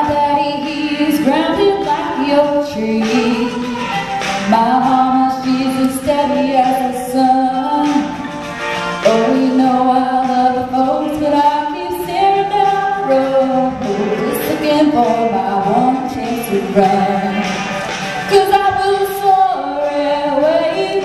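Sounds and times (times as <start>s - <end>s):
woman singing into a microphone: 0.0s - 8.3s, 9.0s - 21.0s.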